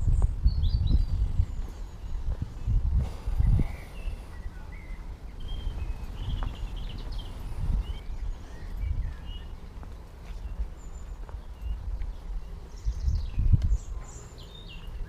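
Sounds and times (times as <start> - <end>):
songbirds chirping: 0.0 - 15.0
steady low rumble: 0.0 - 15.0.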